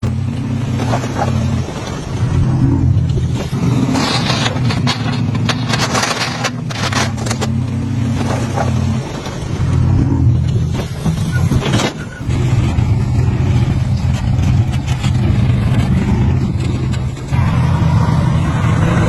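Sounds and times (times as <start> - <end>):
clattering knocks and scrapes: 0.0 - 17.4
heavy diesel engine running: 0.0 - 19.0.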